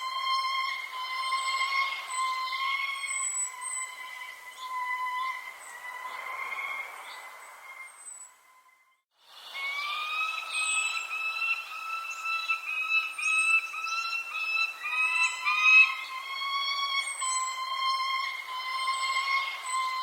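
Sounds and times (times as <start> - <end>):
birds chirping: 0.0 - 20.0
whistle-like held tones: 0.0 - 20.0.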